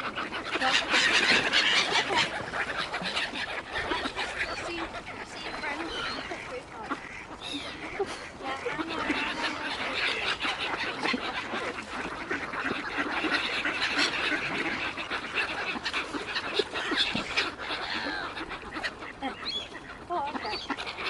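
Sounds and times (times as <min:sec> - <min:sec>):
waterbirds calling: 0:00.0 - 0:21.0.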